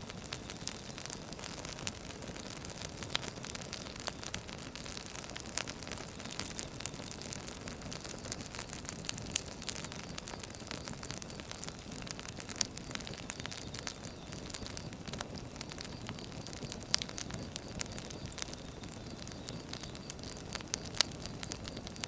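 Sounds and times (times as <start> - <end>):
firewood crackling: 0.0 - 22.0
low hiss of fire: 0.0 - 22.0.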